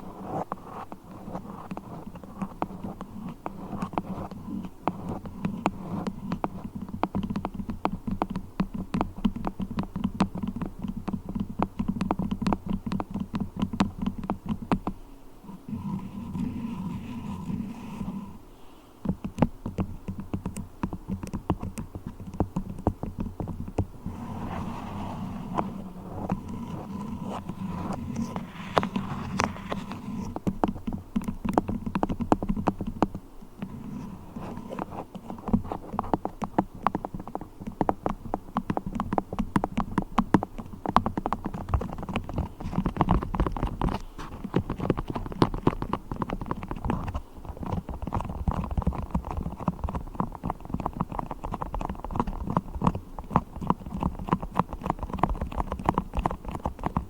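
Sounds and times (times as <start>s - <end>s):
beeswax crackling and clicking: 0.2s - 18.4s, 19.0s - 57.0s.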